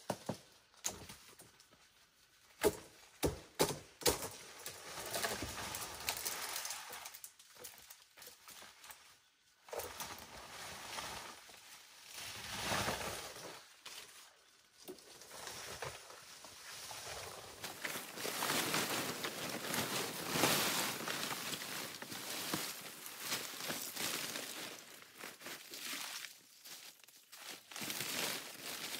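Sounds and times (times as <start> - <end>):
leaves rustling: 4.7 - 28.9.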